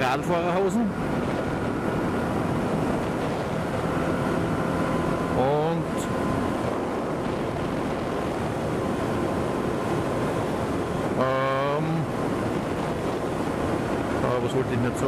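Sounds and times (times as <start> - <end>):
vehicle engine and tyres: 0.0 - 15.0
wind rushing over microphone: 0.0 - 15.0.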